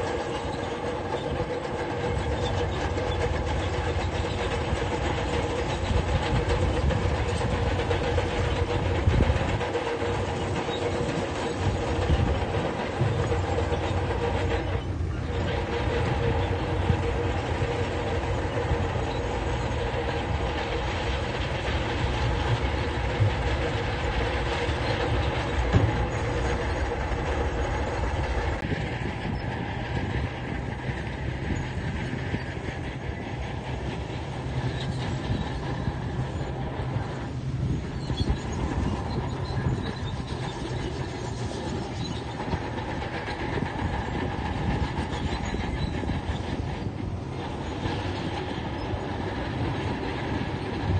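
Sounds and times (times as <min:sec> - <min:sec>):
diesel engine rumbling: 0:00.0 - 0:50.9.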